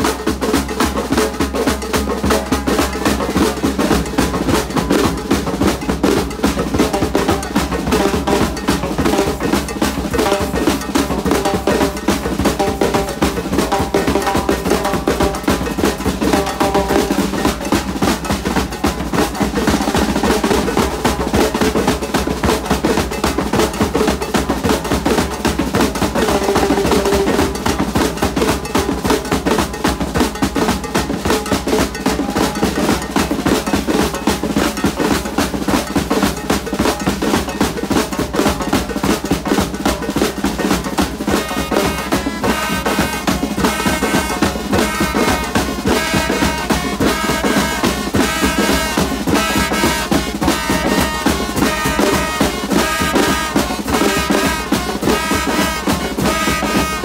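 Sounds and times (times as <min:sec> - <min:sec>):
marching drums playing: 0:00.0 - 0:57.0.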